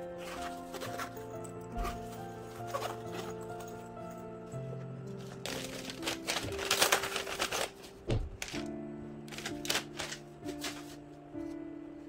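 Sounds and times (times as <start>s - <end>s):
soft music of long held notes: 0.0s - 12.0s.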